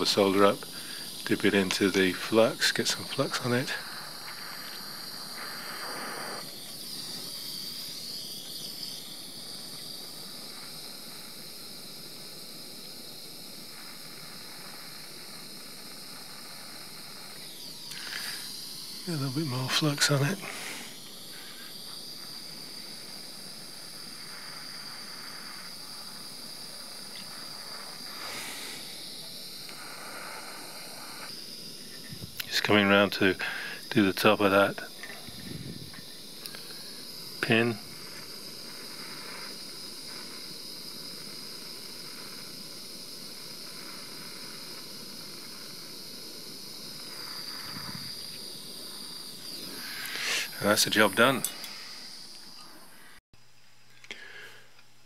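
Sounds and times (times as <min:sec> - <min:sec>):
propane torch hissing: 0:00.0 - 0:53.3, 0:54.1 - 0:54.7.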